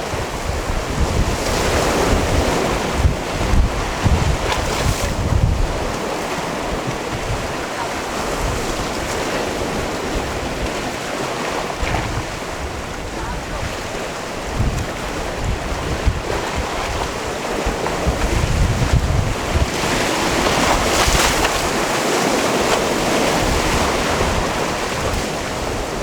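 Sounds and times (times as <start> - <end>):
waves on rocky shore: 0.0 - 26.0
wind buffeting microphone: 0.0 - 26.0.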